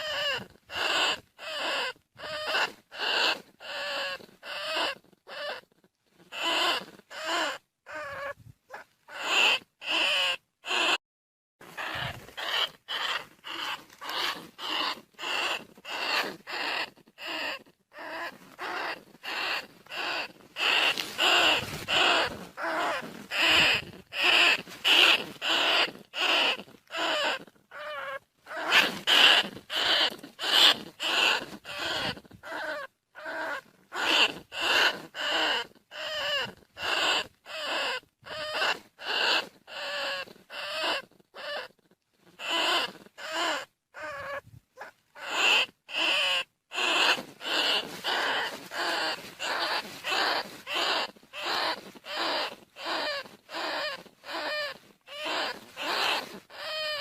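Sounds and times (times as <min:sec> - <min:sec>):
rat rasping calls: 0:00.0 - 0:11.0, 0:11.6 - 0:57.0.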